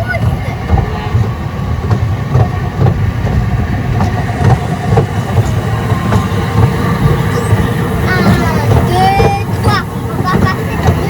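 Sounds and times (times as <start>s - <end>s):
small train rumbling: 0.0s - 11.0s
train clicks: 0.0s - 11.0s.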